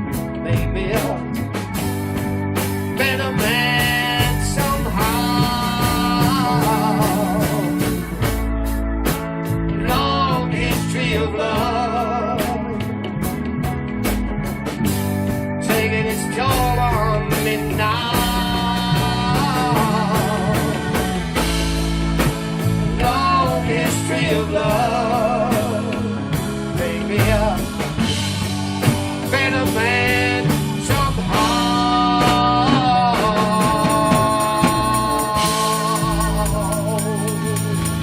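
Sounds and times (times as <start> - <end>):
bass: 0.0 - 38.0
bending lead guitar line: 0.0 - 38.0
drums: 0.0 - 38.0.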